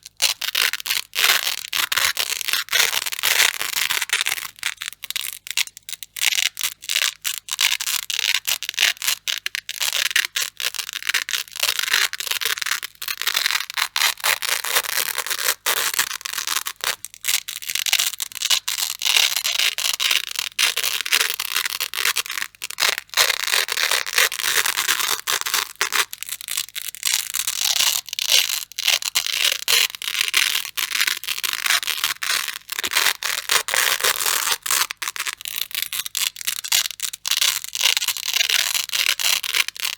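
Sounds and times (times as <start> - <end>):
hook-and-loop strips ripping: 0.0 - 39.9.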